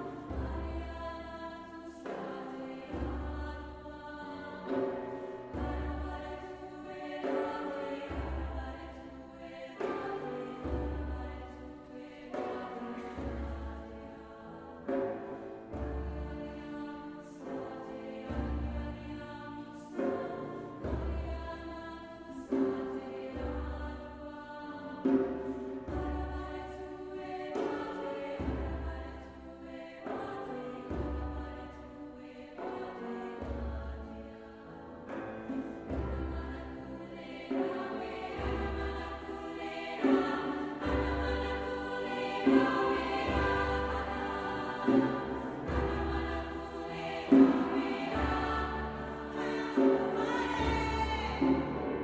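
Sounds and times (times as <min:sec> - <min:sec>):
choir-like chords: 0:00.0 - 0:52.0.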